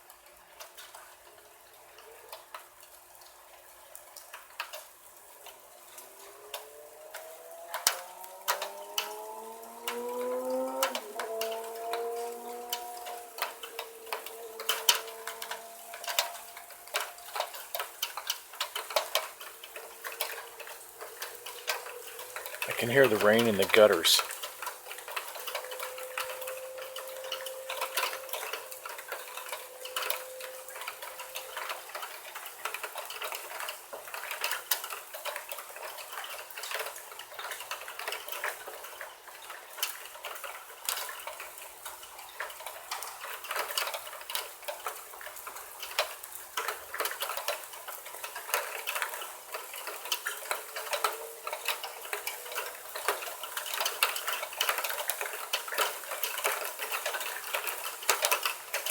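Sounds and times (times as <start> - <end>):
rain dripping in gutters: 0.0 - 58.9
steady rainfall: 0.0 - 58.9.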